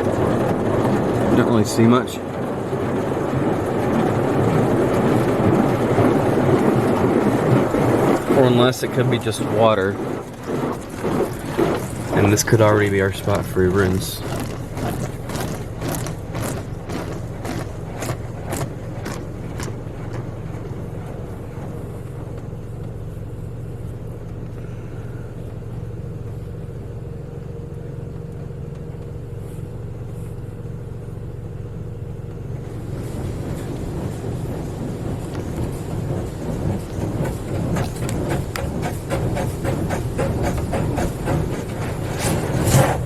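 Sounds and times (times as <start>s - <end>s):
water spray beating on car: 0.0s - 24.4s, 32.2s - 43.0s
steady low hum: 0.0s - 43.0s.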